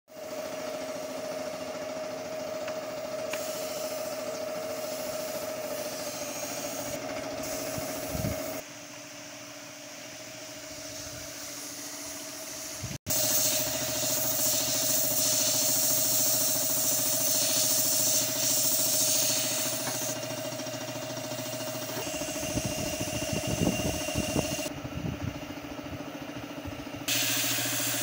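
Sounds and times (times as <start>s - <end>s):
paint spray gun hissing: 0.1s - 24.7s, 27.0s - 28.0s
air compressor humming: 0.1s - 28.0s.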